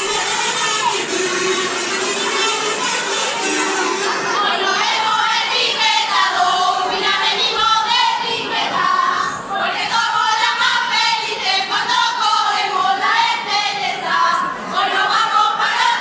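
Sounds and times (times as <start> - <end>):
women singing in chorus: 0.0 - 16.0.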